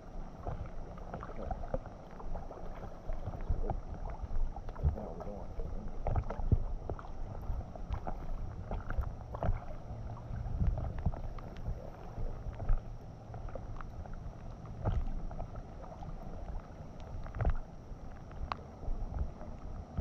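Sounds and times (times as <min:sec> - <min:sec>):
low rumble: 0:00.0 - 0:20.0
water lapping against kayak: 0:00.0 - 0:20.0.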